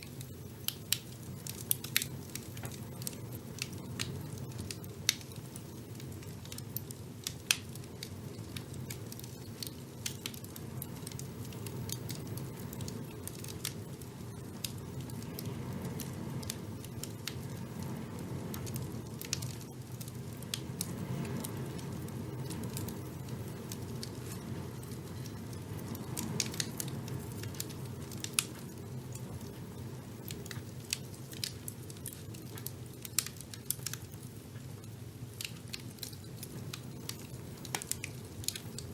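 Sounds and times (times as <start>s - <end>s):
fire burning in a fireplace: 0.0s - 38.9s
fire crackles and pops: 0.0s - 38.9s.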